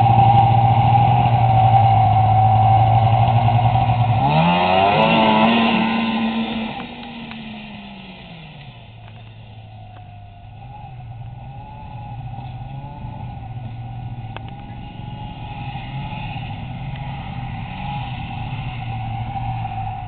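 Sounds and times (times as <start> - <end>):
snowmobile engine whine: 0.0 - 20.0.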